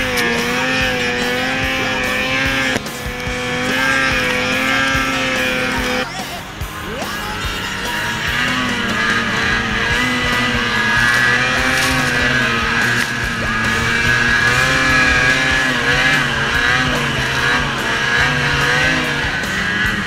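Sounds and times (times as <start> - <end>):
music playing: 0.0 - 20.0
snowmobile engine revving: 0.0 - 20.0.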